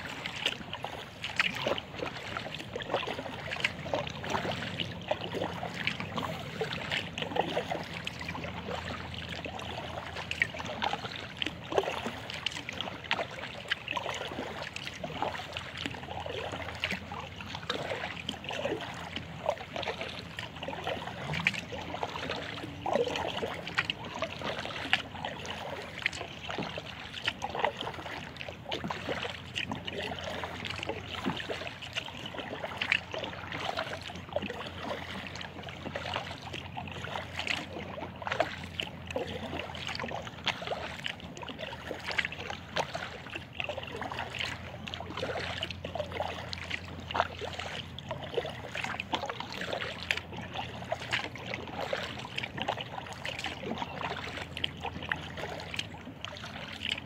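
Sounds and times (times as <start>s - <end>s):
paddle splashing in water: 0.0s - 57.0s
water dripping off paddle: 0.0s - 57.0s.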